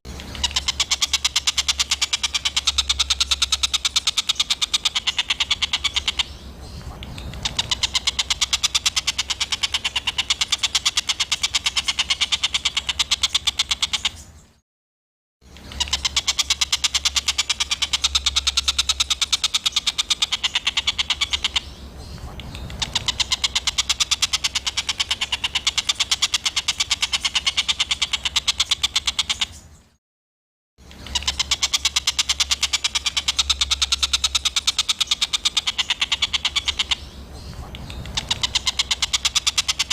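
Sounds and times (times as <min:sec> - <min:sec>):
songbird harsh chattering: 0:00.1 - 0:14.4, 0:15.5 - 0:29.7, 0:30.8 - 0:39.9.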